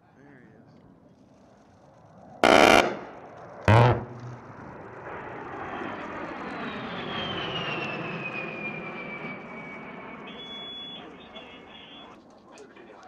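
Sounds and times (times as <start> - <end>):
jet engines flying past: 0.1 - 13.0.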